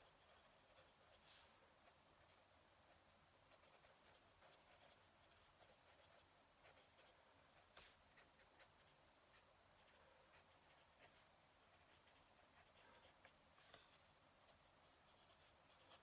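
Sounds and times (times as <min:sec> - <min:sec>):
pen nib scratching paper: 0:00.0 - 0:16.0.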